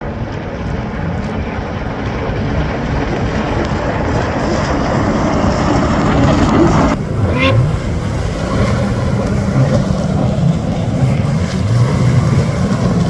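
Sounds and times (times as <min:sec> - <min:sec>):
jet ski engines droning: 0:00.2 - 0:13.0.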